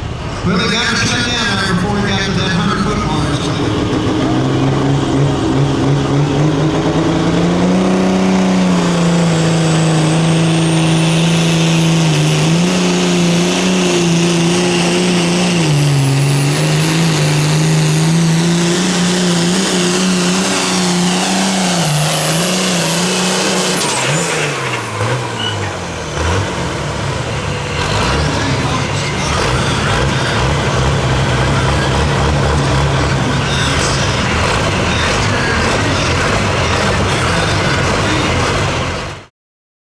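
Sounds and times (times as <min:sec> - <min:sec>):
high whine: 0:00.0 - 0:25.9, 0:27.3 - 0:38.9
engine at full throttle: 0:00.0 - 0:39.3.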